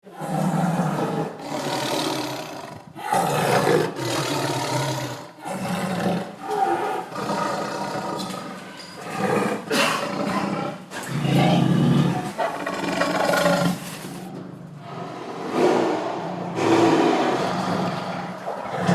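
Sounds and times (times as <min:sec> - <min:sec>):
tiger growling: 0:00.0 - 0:18.9.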